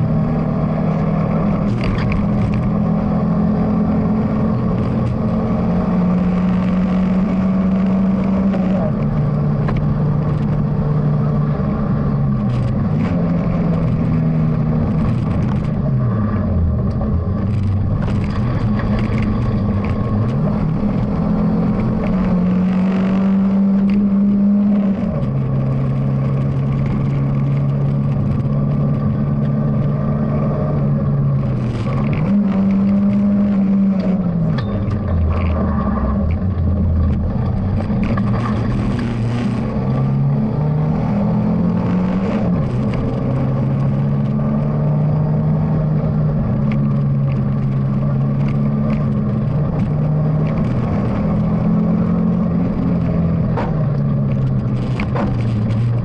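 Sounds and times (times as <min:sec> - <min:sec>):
car engine pulling through gears: 0:00.0 - 0:56.0.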